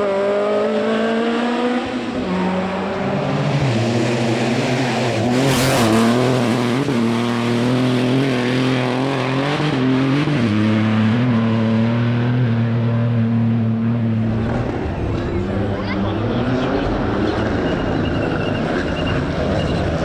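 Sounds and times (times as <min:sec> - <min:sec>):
rally car engine running: 0:00.0 - 0:20.0.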